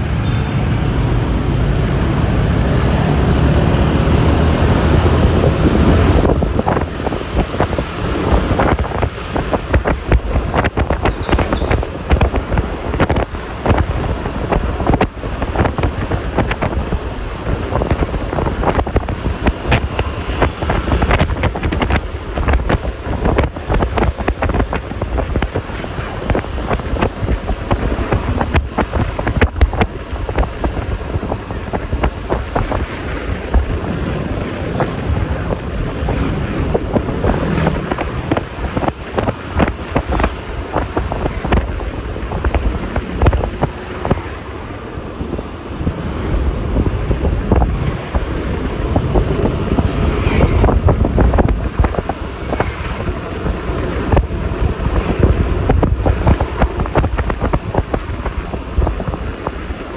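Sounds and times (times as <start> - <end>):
road and traffic noise: 0.0 - 59.9
wind buffeting microphone: 0.0 - 59.9.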